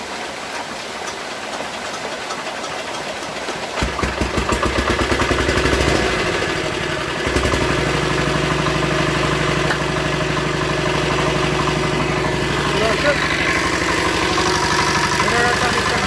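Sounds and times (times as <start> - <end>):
heavy rain hiss: 0.0 - 16.0
generator engine running: 1.6 - 16.0.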